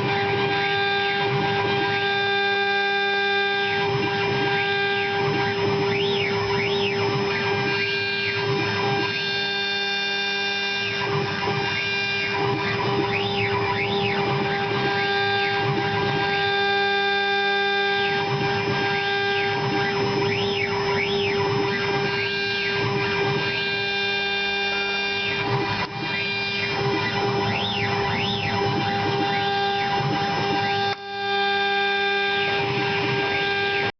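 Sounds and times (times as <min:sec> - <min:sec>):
axis motor whines rising and falling: 0:00.0 - 0:33.9
cnc router spindle whine: 0:00.0 - 0:33.9.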